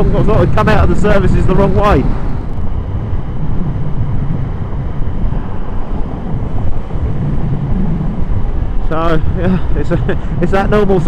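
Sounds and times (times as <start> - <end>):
motorcycle engine roar: 0.0 - 11.0
wind buffeting microphone: 0.0 - 11.0.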